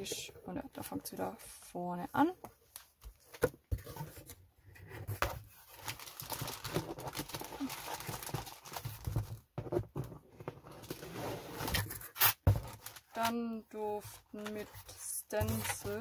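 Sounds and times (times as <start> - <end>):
rustling of craft supplies: 0.0 - 16.0.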